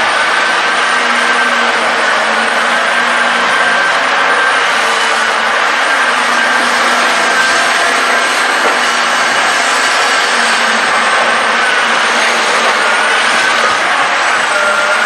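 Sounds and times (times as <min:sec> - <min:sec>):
excavator engine running: 0:00.0 - 0:15.0
machine whining tones: 0:00.0 - 0:15.0.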